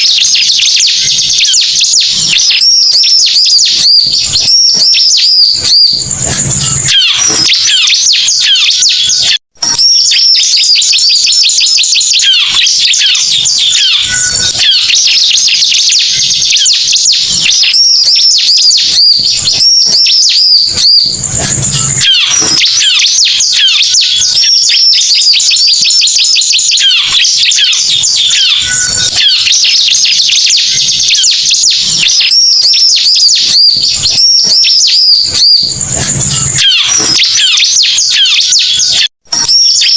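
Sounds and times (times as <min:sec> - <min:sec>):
bird chattering trills and whistles: 0:00.0 - 0:39.9.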